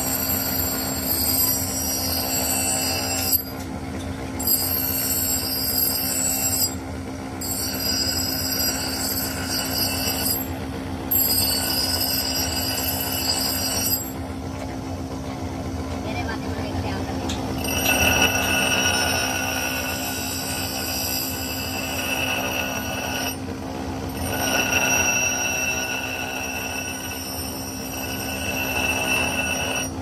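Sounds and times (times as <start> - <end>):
steel screeching on grinding wheel: 0.0 - 15.1, 17.3 - 30.0
grinder humming: 0.0 - 30.0.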